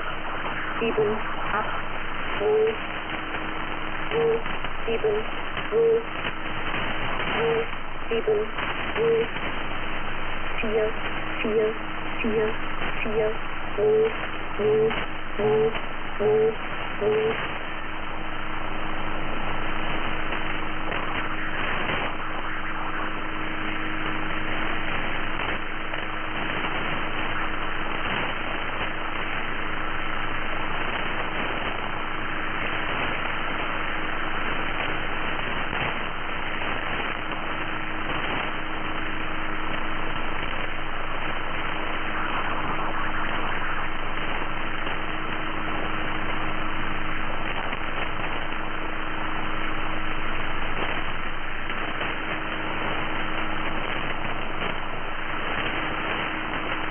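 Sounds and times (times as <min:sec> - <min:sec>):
low hum tone: 0:00.0 - 0:56.9
radio static hiss: 0:00.0 - 0:56.9.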